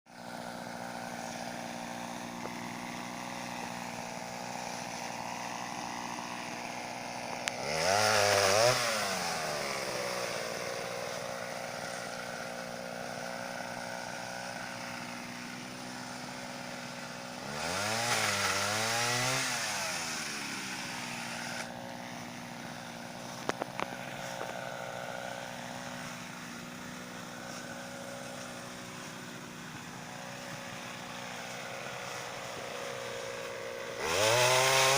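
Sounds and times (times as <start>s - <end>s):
two-stroke engine idling and revving: 0.1s - 34.9s.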